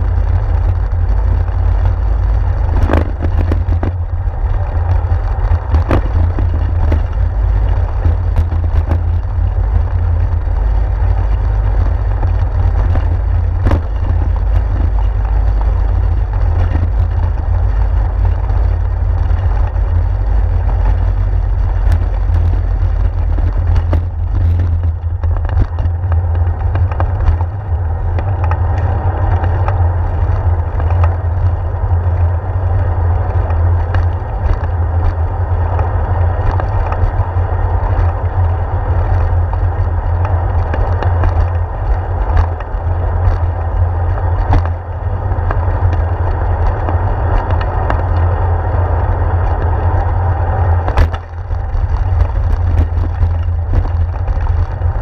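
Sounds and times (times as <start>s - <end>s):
bicycle tyres rolling on pavement: 0.0s - 55.0s
wind buffeting camera: 0.0s - 55.0s.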